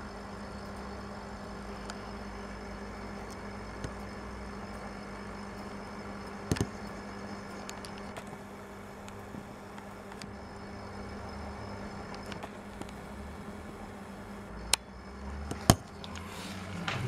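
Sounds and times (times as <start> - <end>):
aquarium air pump humming: 0.0 - 17.0.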